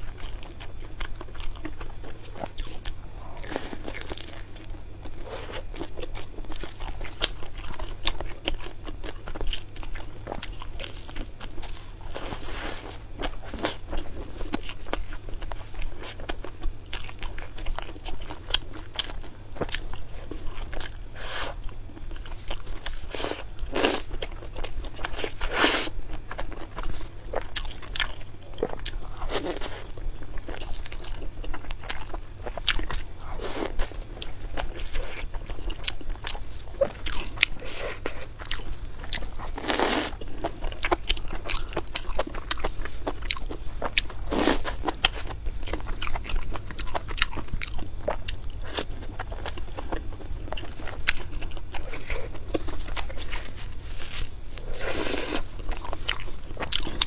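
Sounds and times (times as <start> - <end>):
person chewing meat: 0.0 - 57.0.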